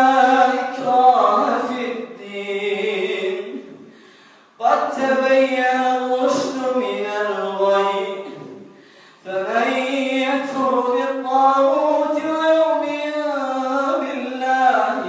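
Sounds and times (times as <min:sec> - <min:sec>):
man chanting recitation: 0:00.0 - 0:03.8, 0:04.6 - 0:15.0.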